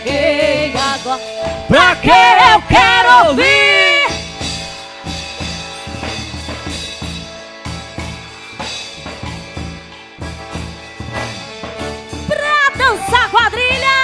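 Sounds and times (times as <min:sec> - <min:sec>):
steady drum beat: 0:00.0 - 0:14.0.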